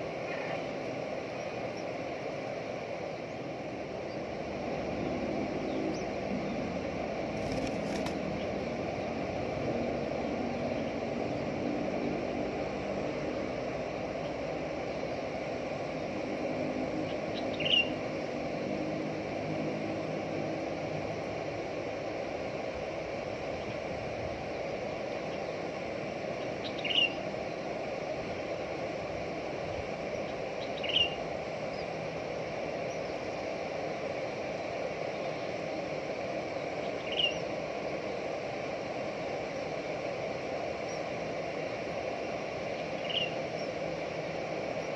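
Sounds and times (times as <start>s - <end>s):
low background hum: 0.0s - 44.9s.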